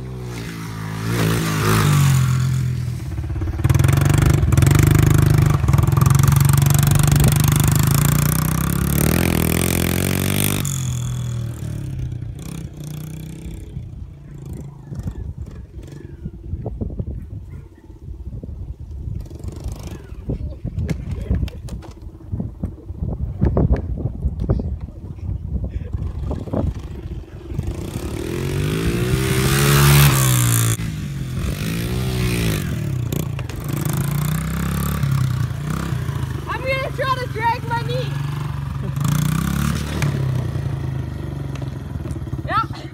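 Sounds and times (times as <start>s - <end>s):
motorbike engine revving: 0.0s - 16.6s, 19.1s - 20.4s, 25.9s - 42.9s.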